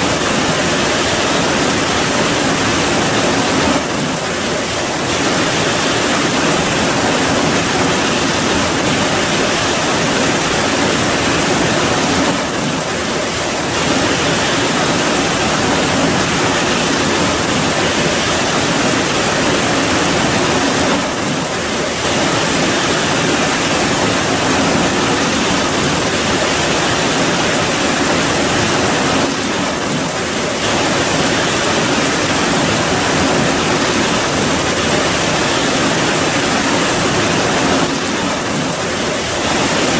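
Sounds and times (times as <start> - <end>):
dense rain hissing: 0.0 - 39.9.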